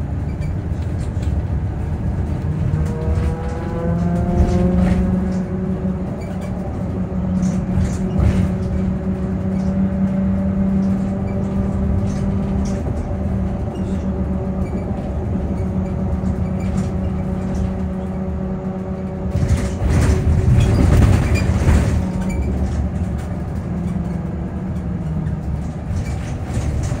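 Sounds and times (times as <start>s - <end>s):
road rumble: 0.0s - 27.0s.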